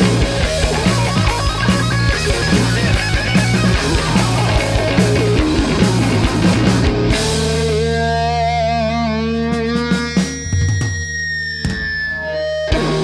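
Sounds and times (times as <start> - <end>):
held guitar chord ringing: 0.0 - 13.0
punk rock band playing live: 0.0 - 13.0.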